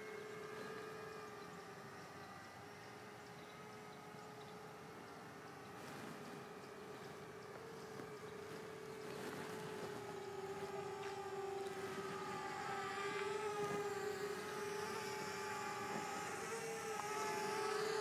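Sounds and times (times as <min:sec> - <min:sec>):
quadcopter propellers whining: 0:00.0 - 0:18.0.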